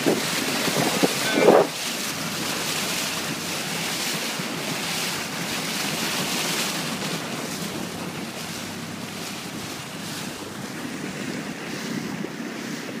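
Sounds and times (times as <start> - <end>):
sea water splashing: 0.0 - 13.0
wind buffeting microphone: 0.0 - 13.0.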